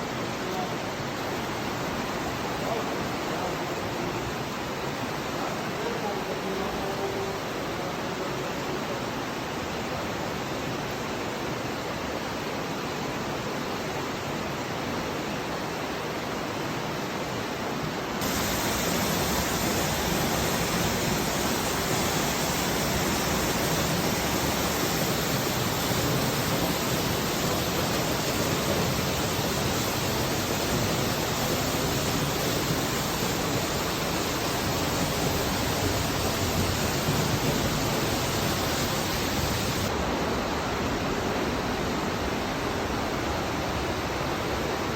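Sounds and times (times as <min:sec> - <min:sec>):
river rushing: 0:00.0 - 0:44.9.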